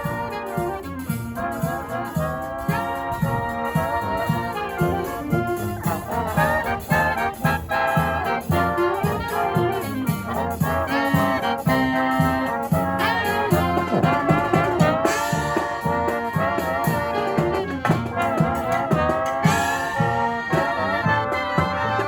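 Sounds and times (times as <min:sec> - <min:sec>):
brass marching band playing: 0:00.0 - 0:22.0.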